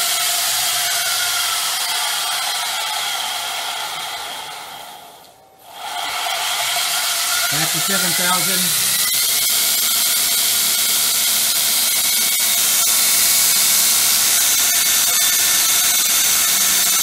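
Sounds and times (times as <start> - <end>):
belt grinder hissing: 0.0 - 2.8, 5.7 - 17.0.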